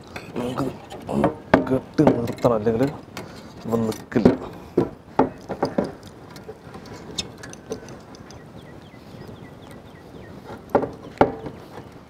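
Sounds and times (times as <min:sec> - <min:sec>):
hands tying raw turkey: 0:00.0 - 0:12.0.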